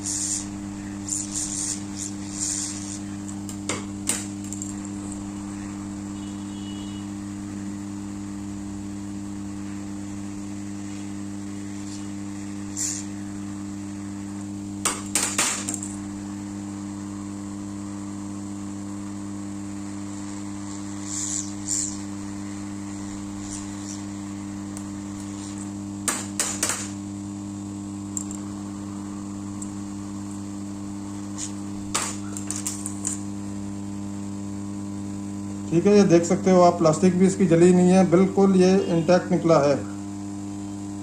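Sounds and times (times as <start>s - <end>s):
hot air gun blower hum: 0.0s - 41.0s.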